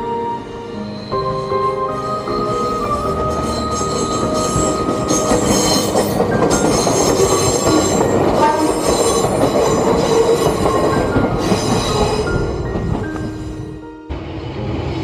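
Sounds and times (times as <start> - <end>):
electric train passing: 0.0 - 15.0
wheels squealing: 0.1 - 12.4.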